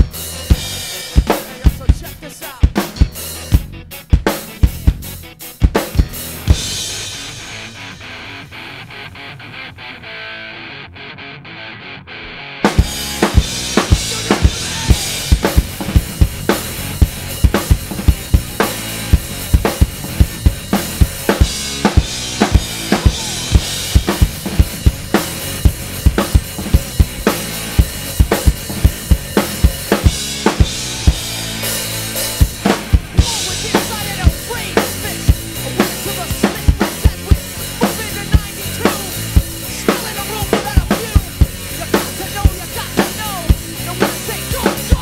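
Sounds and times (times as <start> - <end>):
guitar playing: 0.0 - 43.9
drum kit rock beat: 0.0 - 45.0
rock backing track: 0.0 - 45.0.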